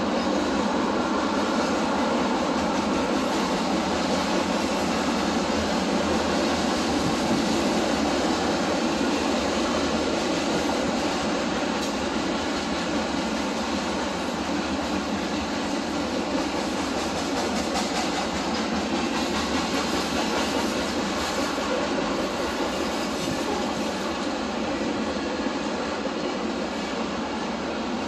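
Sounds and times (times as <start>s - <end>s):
freight train wheels on track: 0.0s - 28.0s.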